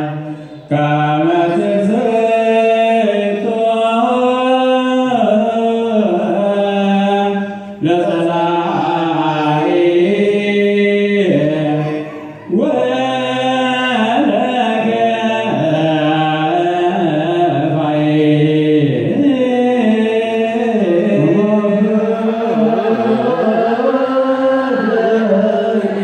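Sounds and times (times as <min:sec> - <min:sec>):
liturgical chant: 0:00.0 - 0:26.0.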